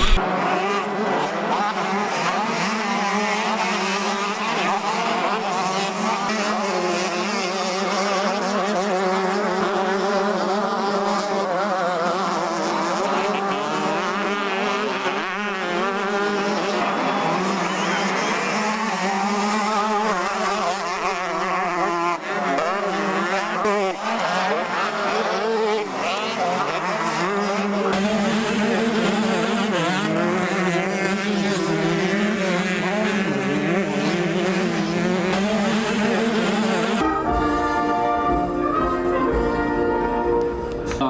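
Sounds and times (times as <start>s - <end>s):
motocross bikes revving: 0.0s - 38.6s.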